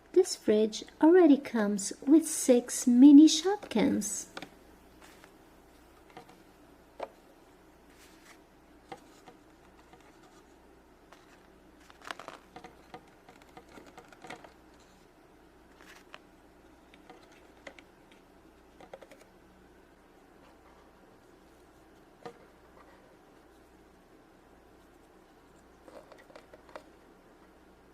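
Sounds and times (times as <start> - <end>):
faint room hum: 0.0 - 27.9.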